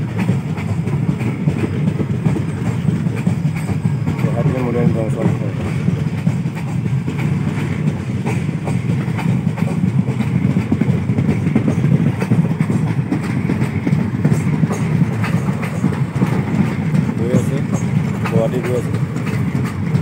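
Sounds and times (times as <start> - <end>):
train rumbling on track: 0.0 - 20.0
wheels clicking: 0.0 - 20.0.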